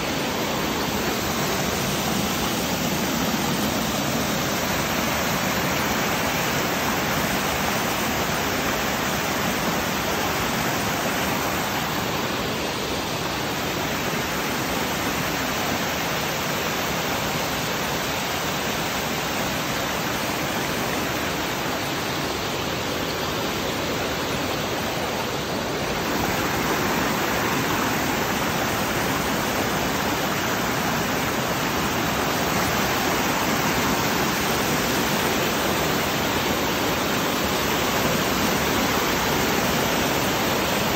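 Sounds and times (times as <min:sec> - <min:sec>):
water rushing over boulders: 0:00.0 - 0:40.9.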